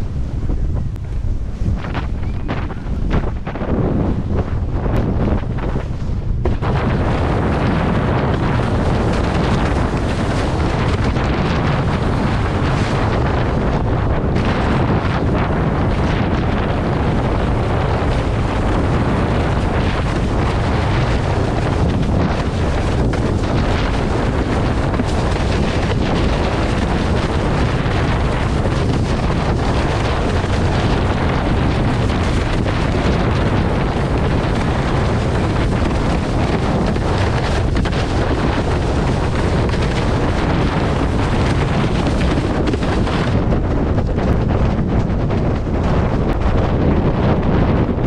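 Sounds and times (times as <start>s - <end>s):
board slapping over choppy water: 0.0s - 48.0s
wind buffeting microphone: 0.0s - 48.0s.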